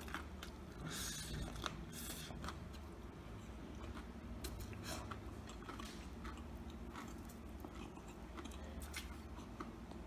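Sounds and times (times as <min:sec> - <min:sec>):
crunchy chewing: 0:00.0 - 0:10.0
low steady hum: 0:00.0 - 0:10.0.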